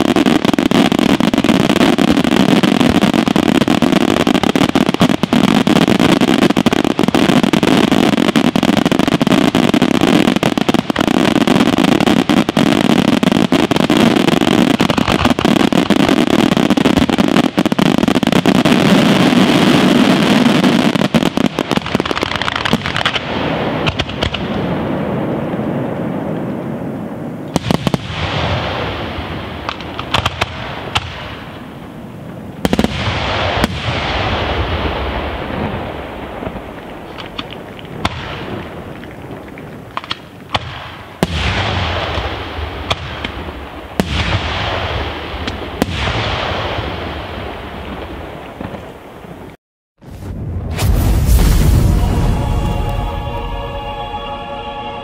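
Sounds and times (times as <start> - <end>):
fireworks bursts and crackle: 0.0 - 54.5.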